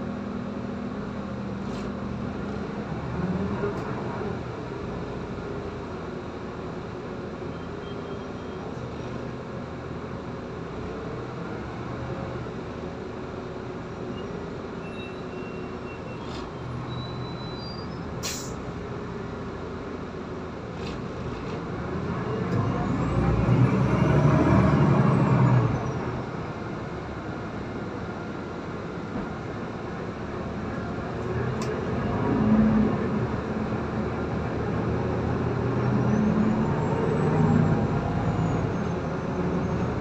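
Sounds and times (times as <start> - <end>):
bus engine and road noise: 0.0 - 40.0.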